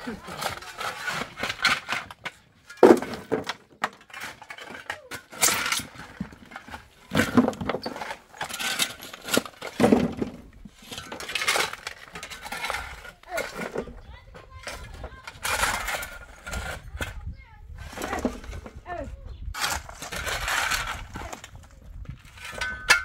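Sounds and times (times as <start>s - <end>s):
hard objects clattering and clinking: 0.0s - 23.0s.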